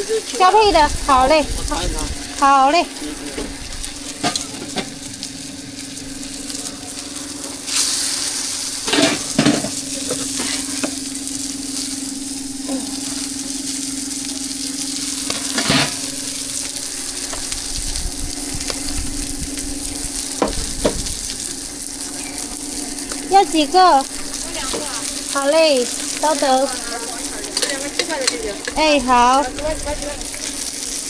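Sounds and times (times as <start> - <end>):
food sizzling on a griddle: 0.0 - 31.0
steady low hum: 0.0 - 31.0.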